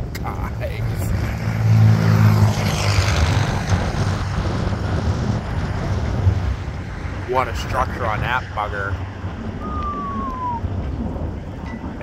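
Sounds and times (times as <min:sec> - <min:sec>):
vehicle passing by: 0:00.4 - 0:11.4.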